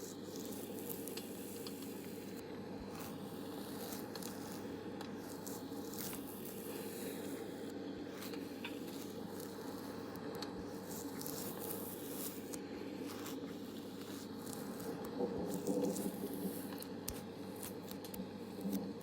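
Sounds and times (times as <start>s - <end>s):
soft crackles and rustles: 0.0s - 19.0s.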